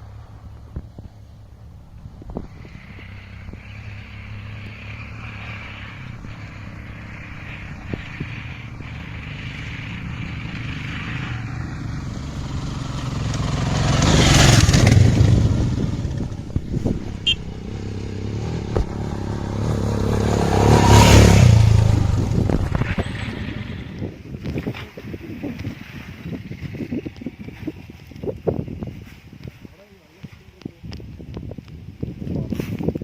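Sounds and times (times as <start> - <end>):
off-road motorcycle engines labouring: 0.0 - 33.0
stones clattering under tyres: 1.9 - 29.6.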